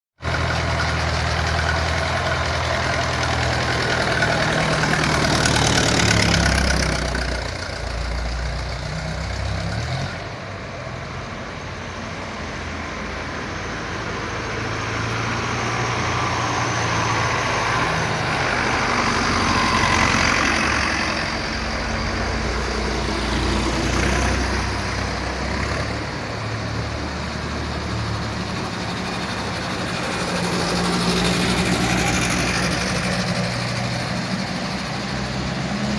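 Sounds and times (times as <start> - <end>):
tractor engine passing by: 0.2 - 35.9.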